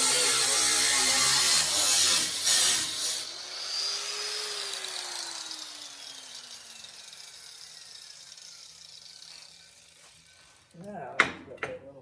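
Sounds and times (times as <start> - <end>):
power tool motor winding down: 0.0 - 10.5.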